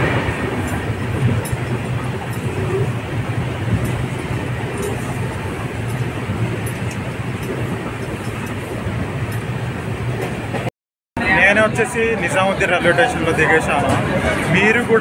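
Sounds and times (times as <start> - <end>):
passenger train running: 0.0 - 15.0.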